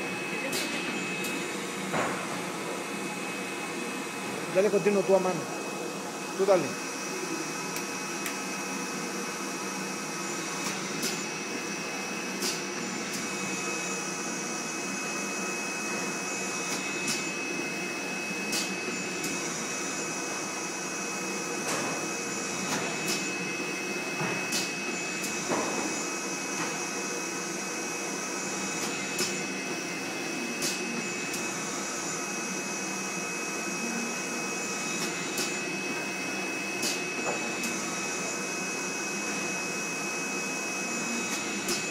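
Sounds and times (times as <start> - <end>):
printing machine whirring: 0.0 - 41.9.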